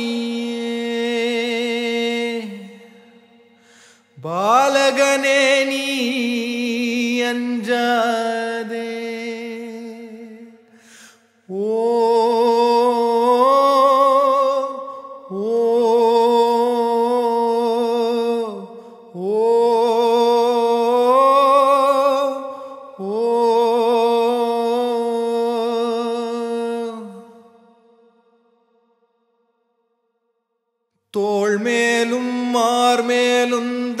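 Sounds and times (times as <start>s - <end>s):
wordless vocal with vibrato: 0.0s - 29.8s, 31.0s - 34.0s.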